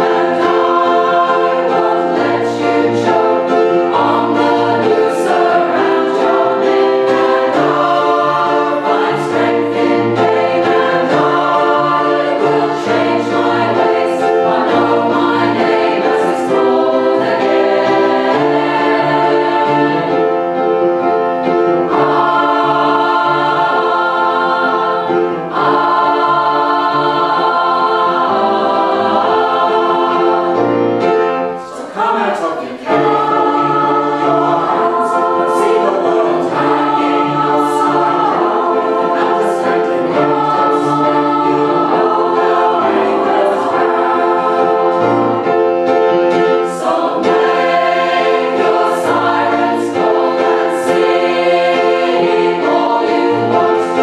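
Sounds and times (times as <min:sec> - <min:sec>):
mixed choir singing: 0:00.0 - 0:54.0
upright piano: 0:00.0 - 0:54.0.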